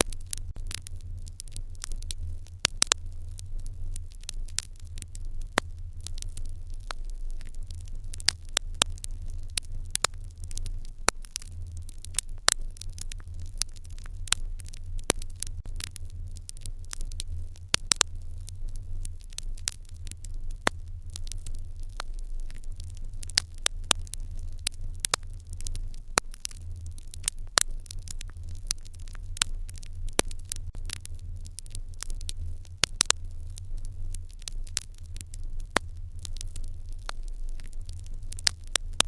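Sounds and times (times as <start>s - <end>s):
steady low hum: 0.0s - 39.0s
wood fire crackling: 0.0s - 39.0s.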